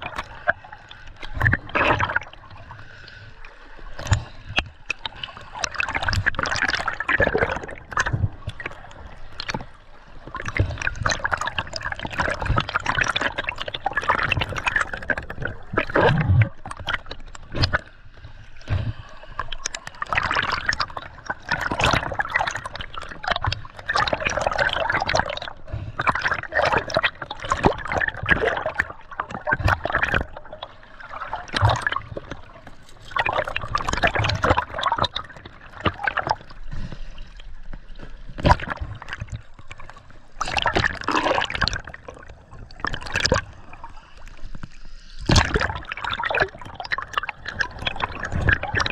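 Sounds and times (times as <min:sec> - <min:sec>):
water gurgling and trickling: 0:00.0 - 0:48.9.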